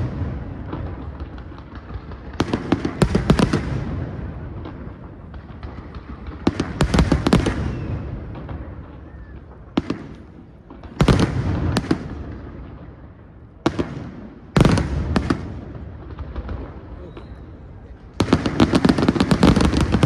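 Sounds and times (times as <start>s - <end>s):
fireworks banging with echo: 0.0s - 20.0s.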